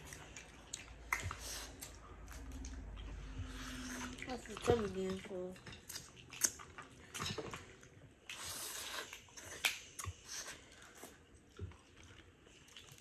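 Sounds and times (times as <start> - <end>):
people chewing and biting: 0.0 - 13.0.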